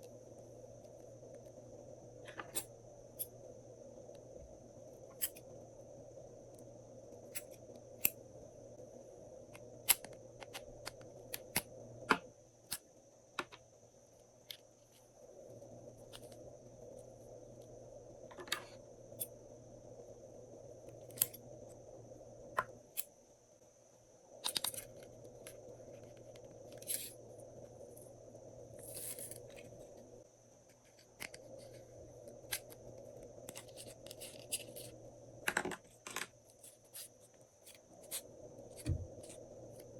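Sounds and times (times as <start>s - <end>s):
steady background hum: 0.0s - 39.9s.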